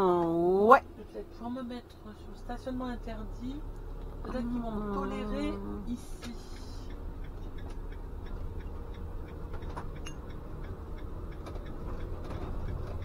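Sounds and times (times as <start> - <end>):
engine low rumble: 0.0 - 13.0
cab ticks and rattles: 0.2 - 13.0.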